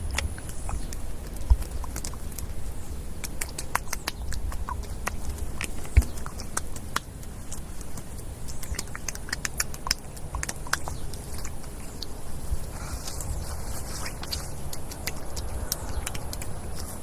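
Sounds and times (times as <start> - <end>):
wet mud squelching: 0.0 - 17.0.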